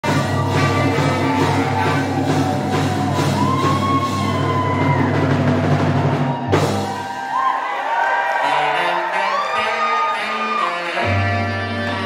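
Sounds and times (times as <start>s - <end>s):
bass line: 0.0s - 7.2s, 8.6s - 12.0s
band music: 0.0s - 12.0s.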